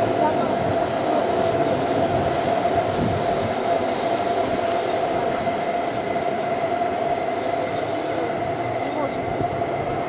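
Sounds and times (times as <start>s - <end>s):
train rolling on tracks: 0.0s - 10.0s.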